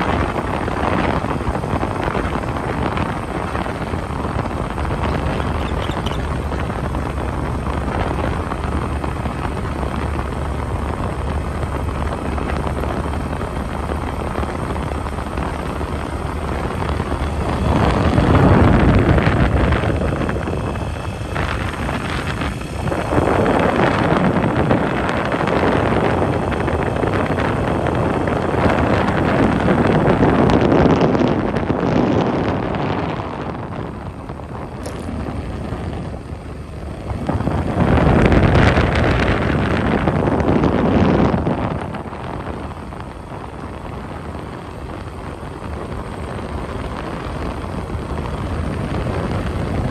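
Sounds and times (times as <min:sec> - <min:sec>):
road noise: 0:00.0 - 0:49.9
wind gusts on microphone: 0:00.0 - 0:49.9.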